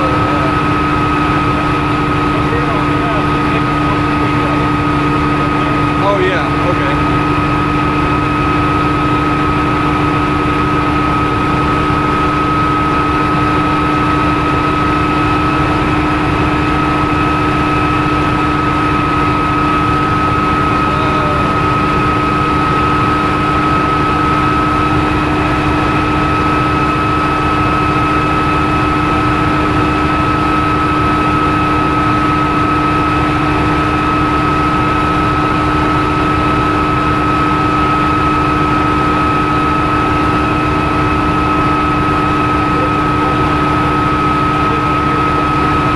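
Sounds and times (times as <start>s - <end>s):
helicopter engine and rotor drone: 0.0s - 45.9s
helicopter whine: 0.0s - 45.9s.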